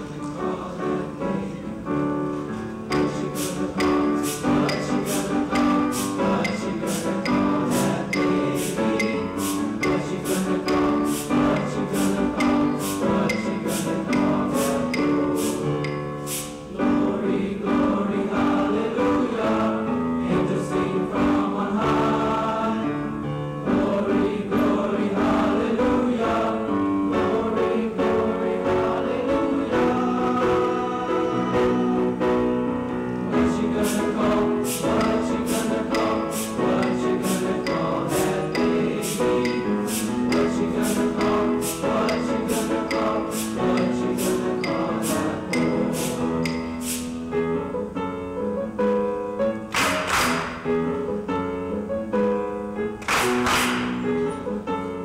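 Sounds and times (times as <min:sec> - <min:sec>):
choir singing with accompaniment: 0:00.0 - 0:47.6, 0:49.6 - 0:51.2, 0:52.7 - 0:54.8.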